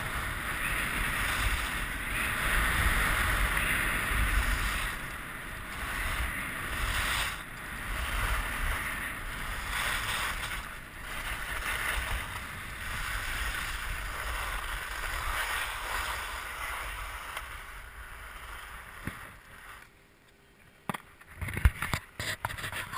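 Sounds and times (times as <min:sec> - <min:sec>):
wind on microphone: 0:00.0 - 0:19.4
skis scraping over snow: 0:00.0 - 0:20.0.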